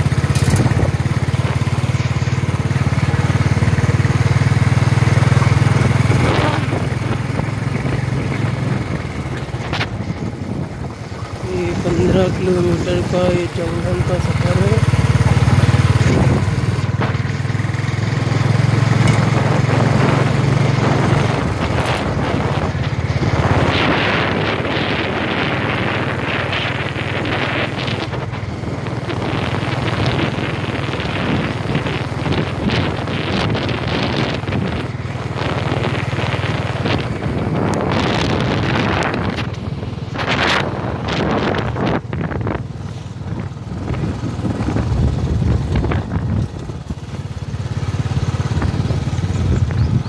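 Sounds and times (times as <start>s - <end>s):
vehicle engine hum: 0.0s - 50.0s
wind rushing over microphone: 0.0s - 50.0s.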